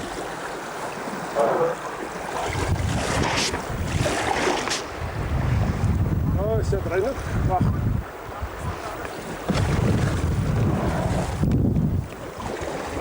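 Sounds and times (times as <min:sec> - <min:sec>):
river water rushing and splashing: 0:00.0 - 0:13.0
wind buffeting microphone: 0:02.2 - 0:13.0.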